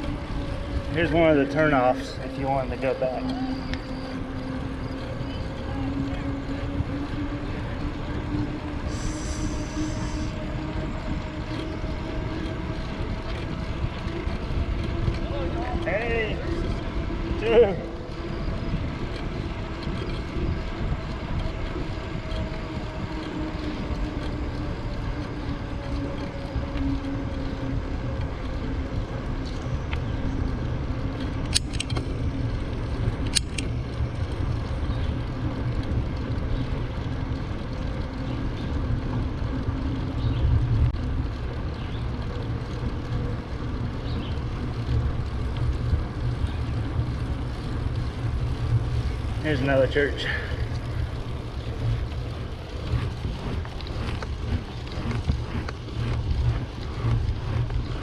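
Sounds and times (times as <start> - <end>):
bicycle rolling noise: 0.0 - 58.0
wind rushing over microphone: 0.0 - 58.0.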